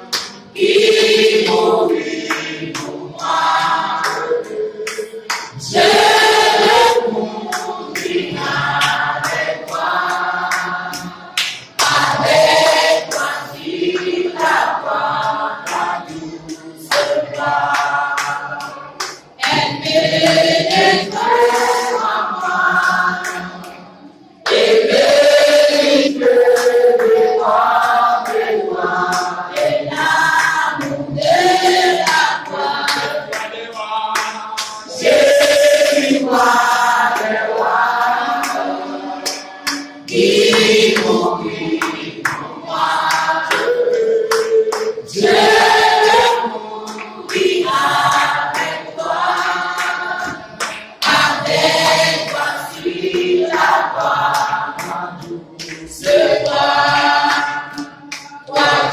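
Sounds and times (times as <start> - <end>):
group singing a hymn unaccompanied: 0.0 - 58.9.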